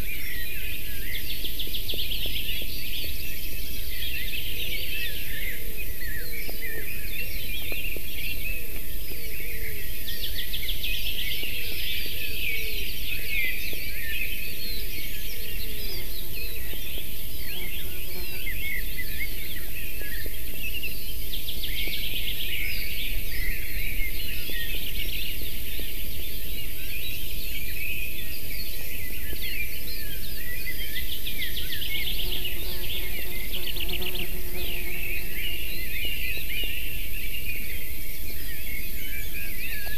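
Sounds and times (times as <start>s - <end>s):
rapid trilled bird song: 0.0s - 39.9s
songbirds chirping: 0.0s - 39.9s.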